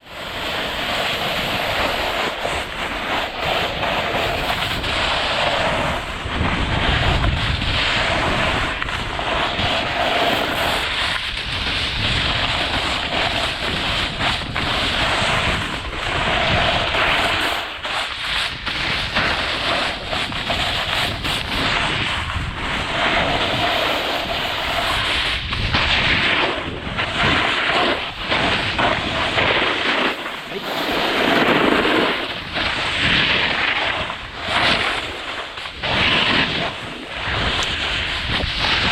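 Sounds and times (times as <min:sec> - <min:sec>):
skis scraping over snow: 0:00.0 - 0:38.9
wind buffeting microphone: 0:00.0 - 0:38.9.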